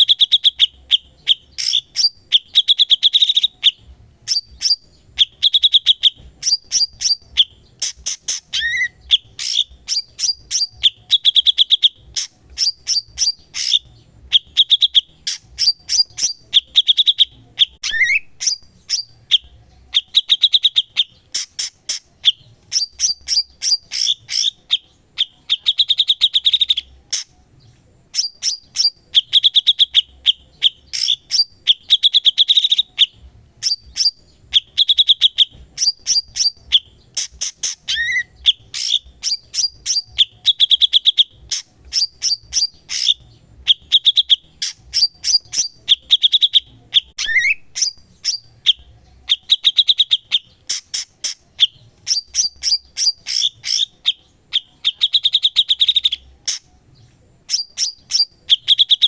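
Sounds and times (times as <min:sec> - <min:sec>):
songbird singing chips and trills: 0:00.0 - 0:59.0.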